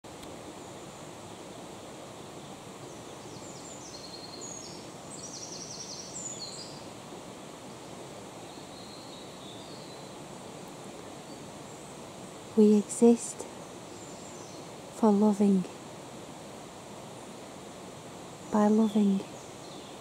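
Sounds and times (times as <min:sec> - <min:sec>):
songbird singing: 0:00.1 - 0:20.0.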